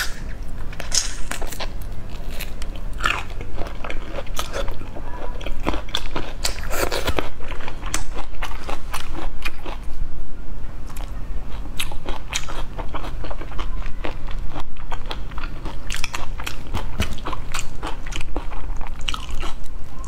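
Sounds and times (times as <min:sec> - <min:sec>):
person chewing with wet crunching: 0:00.0 - 0:10.0, 0:10.8 - 0:20.0
low steady hum: 0:00.0 - 0:20.0.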